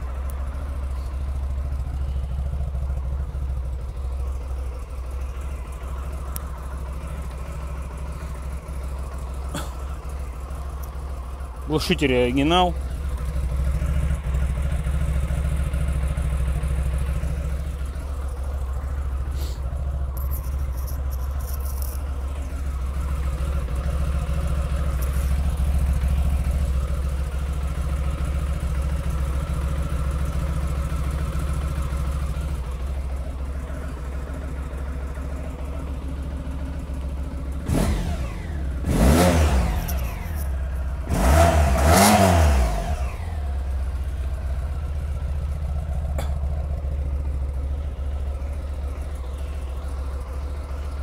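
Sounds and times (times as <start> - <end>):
motorcycle engine idling: 0.0 - 51.0.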